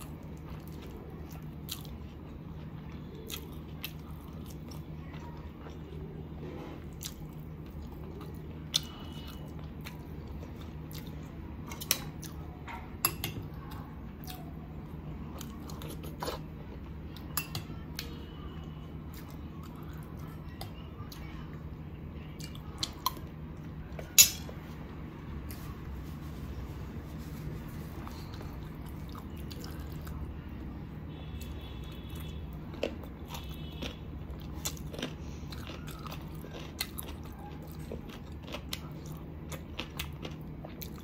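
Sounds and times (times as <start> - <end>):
chewing and wet mouth sounds: 0.0 - 26.1, 27.1 - 41.0
faint steady hum: 0.0 - 41.0.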